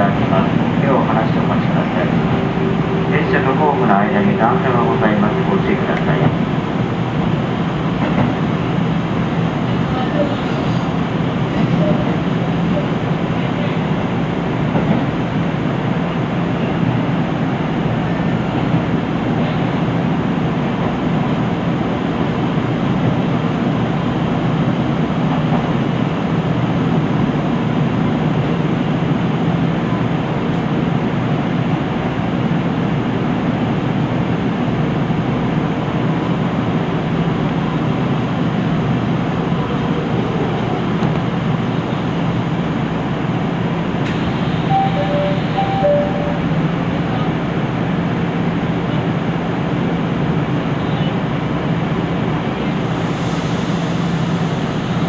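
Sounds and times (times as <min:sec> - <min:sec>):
diesel railcar engine humming: 0:00.0 - 0:55.0.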